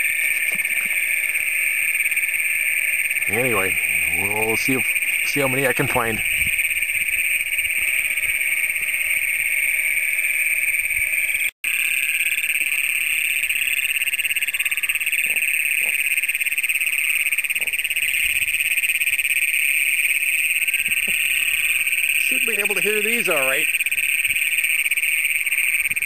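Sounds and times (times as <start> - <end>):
chorus of toads trilling: 0.0 - 26.0.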